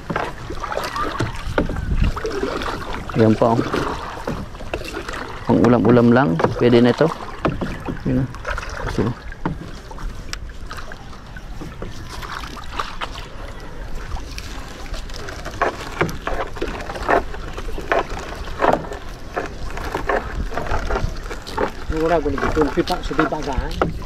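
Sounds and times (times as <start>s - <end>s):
low rumble of wind and water: 0.0s - 24.0s.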